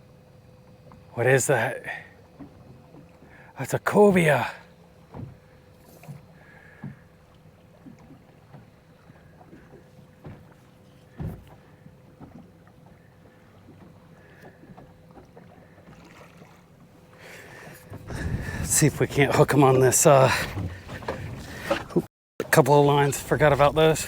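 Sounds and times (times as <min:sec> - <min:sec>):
light knocks of boat: 0:00.0 - 0:01.2, 0:02.0 - 0:24.0.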